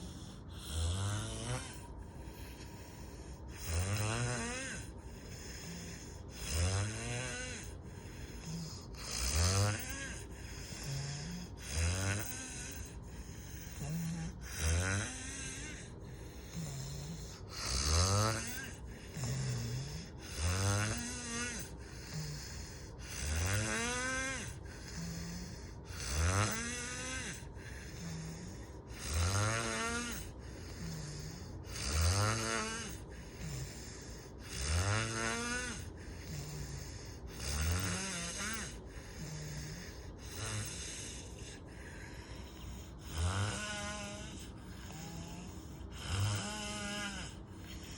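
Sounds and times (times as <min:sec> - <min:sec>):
loud snoring: 0:00.0 - 0:47.9
soft low breathing: 0:00.0 - 0:47.9.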